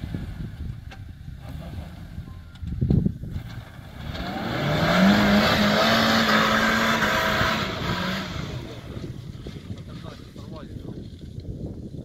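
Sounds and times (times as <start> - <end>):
car engine revving under load: 0.0 - 9.9.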